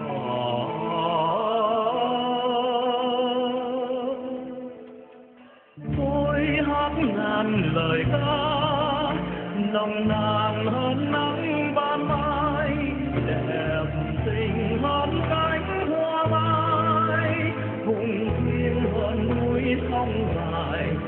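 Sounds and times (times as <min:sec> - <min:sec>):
person singing with instruments: 0:00.0 - 0:21.0.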